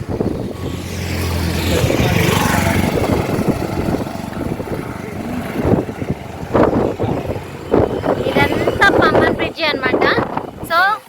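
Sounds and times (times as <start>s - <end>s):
vehicle engine hum passing: 0.0s - 10.7s
rush of road noise: 0.0s - 11.0s.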